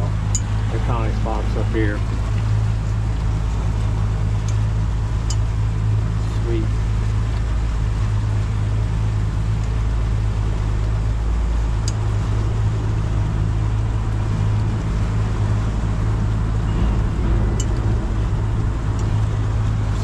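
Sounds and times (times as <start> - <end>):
outboard motor running: 0.0 - 20.0
water and wind noise: 0.0 - 20.0.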